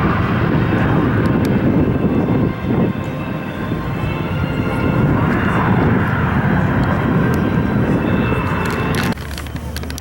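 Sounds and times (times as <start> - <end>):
military aircraft flying past: 0.0 - 10.0.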